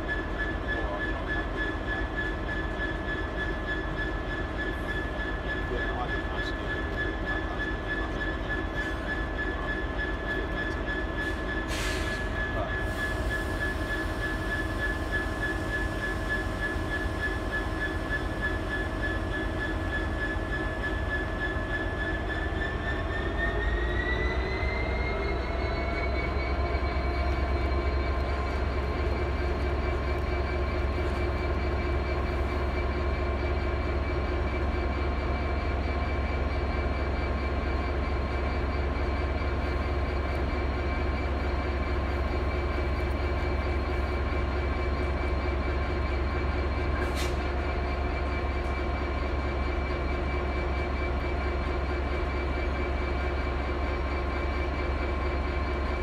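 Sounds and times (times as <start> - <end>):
diesel train engine whine: 0.0 - 56.0.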